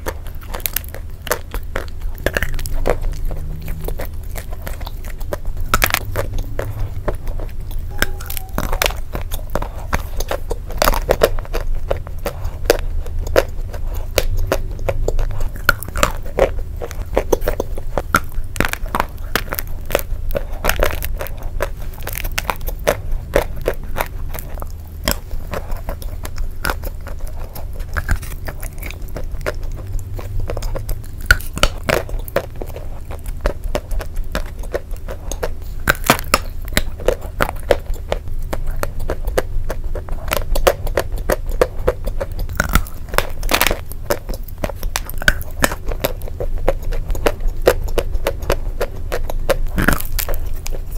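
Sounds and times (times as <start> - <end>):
chewing crunchy clay: 0.0 - 50.9.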